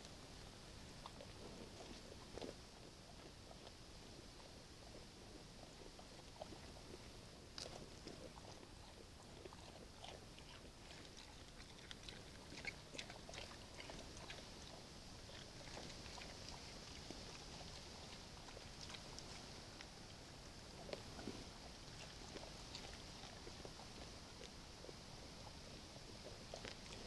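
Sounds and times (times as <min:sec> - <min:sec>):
bears chewing and crunching: 0:00.0 - 0:27.0.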